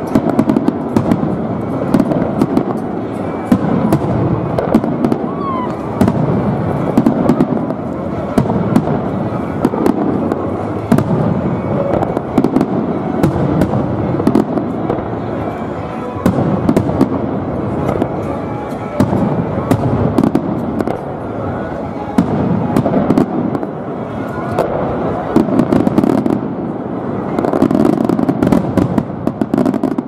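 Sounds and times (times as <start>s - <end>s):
fireworks bursting with bangs: 0.0s - 30.0s
fireworks crackling: 0.0s - 30.0s.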